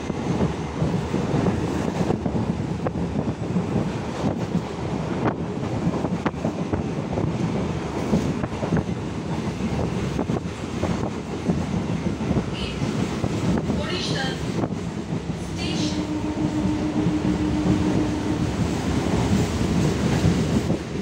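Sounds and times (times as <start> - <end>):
train wheels rumbling on rail: 0.0 - 21.0
wind on microphone: 0.0 - 21.0.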